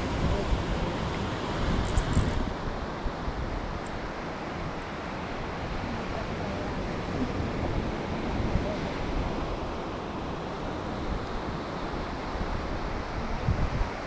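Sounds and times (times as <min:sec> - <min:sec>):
ocean surf washing onto beach: 0:00.0 - 0:14.0
wind gusting on microphone: 0:00.0 - 0:14.0.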